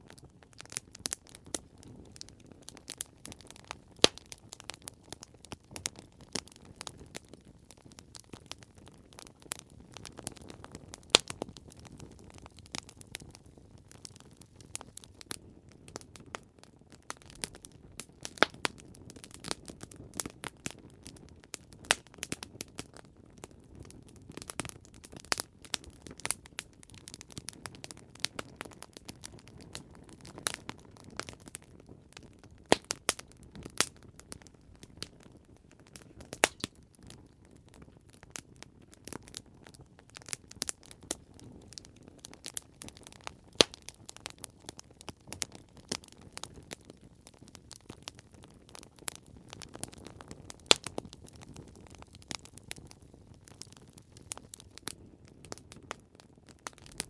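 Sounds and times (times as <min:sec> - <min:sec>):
campfire crackling and popping: 0:00.0 - 0:57.0
low rumble of flames: 0:00.0 - 0:57.0.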